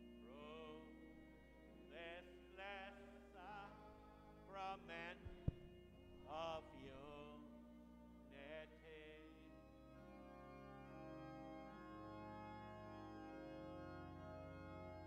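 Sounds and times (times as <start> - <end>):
faint organ chords: 0.0 - 15.0.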